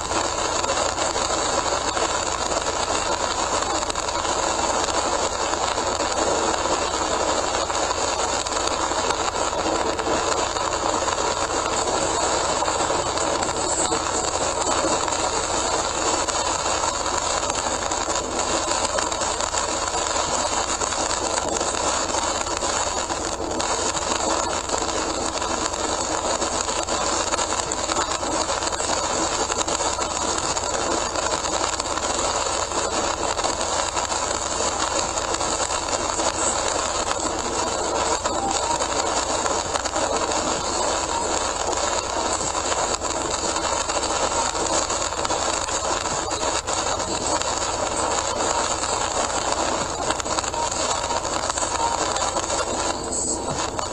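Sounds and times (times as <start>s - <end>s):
rain on car: 0.0s - 53.9s.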